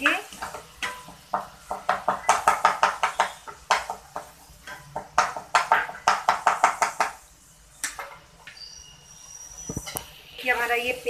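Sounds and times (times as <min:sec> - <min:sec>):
spatula scraping frying paste: 0:00.0 - 0:10.0.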